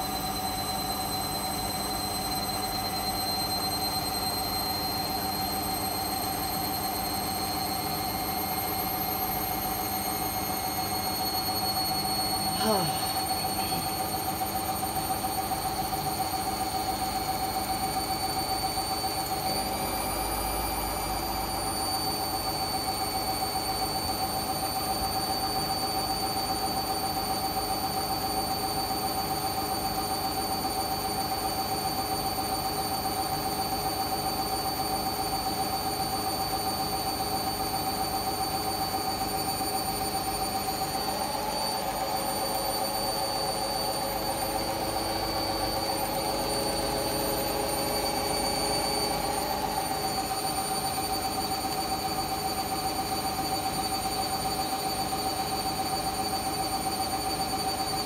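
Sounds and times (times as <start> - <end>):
washing machine spinning: 0.0 - 58.0.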